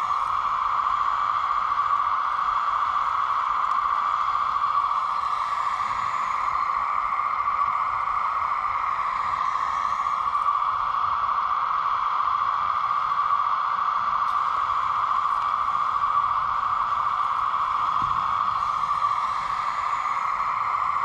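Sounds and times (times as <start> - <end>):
hydraulic pump whine: 0.0 - 21.0.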